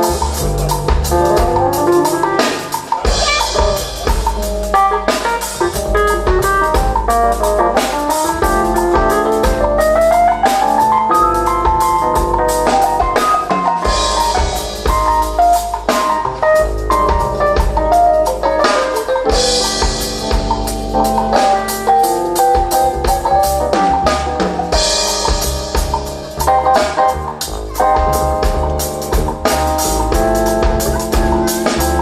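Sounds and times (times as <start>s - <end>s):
double bass: 0.0s - 2.3s, 3.1s - 13.2s, 13.9s - 32.0s
drum kit with crashing cymbals: 0.0s - 32.0s
piano: 0.0s - 32.0s.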